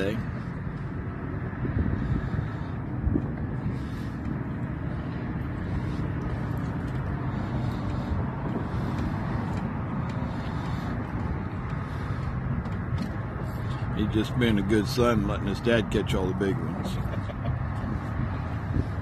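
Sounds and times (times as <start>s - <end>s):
low rumble of wind: 0.0s - 19.0s.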